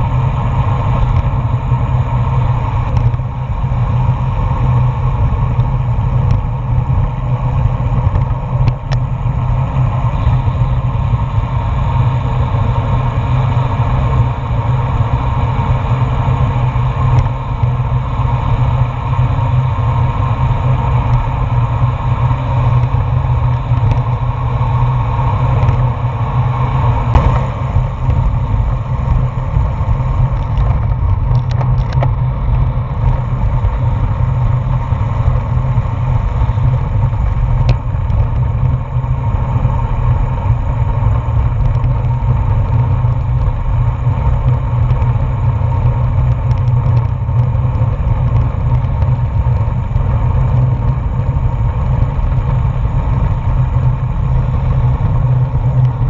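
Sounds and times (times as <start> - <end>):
tyres humming on asphalt: 0.0 - 56.0
wind buffeting microphone: 0.0 - 56.0.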